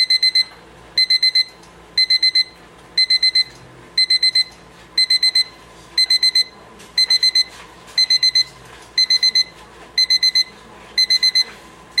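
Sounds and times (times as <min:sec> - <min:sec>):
alarm clock beeping: 0:00.0 - 0:11.5.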